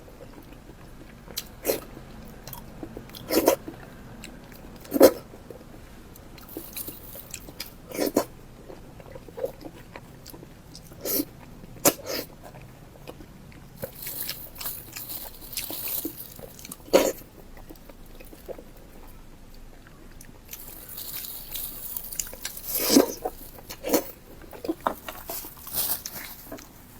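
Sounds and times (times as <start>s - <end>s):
chewing and biting pork skin: 0.0s - 26.9s.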